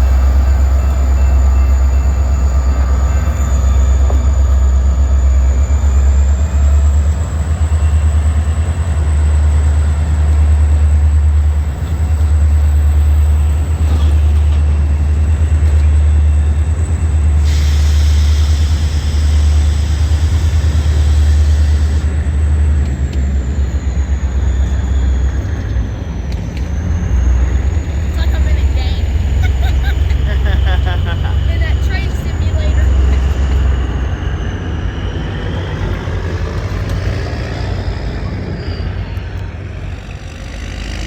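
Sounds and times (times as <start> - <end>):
freight train rumbling: 0.0 - 41.0.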